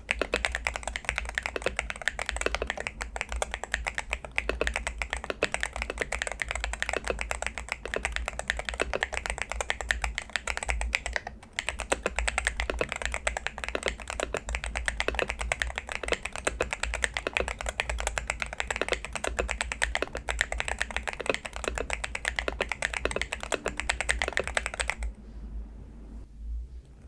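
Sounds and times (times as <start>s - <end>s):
fast keyboard typing: 0.0s - 25.1s.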